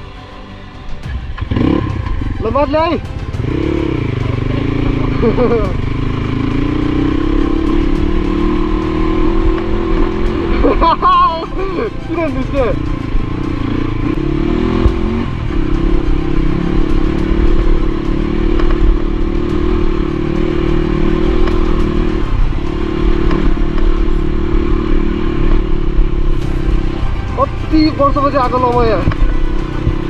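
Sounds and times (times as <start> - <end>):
motorcycle engine running: 1.0 - 30.0.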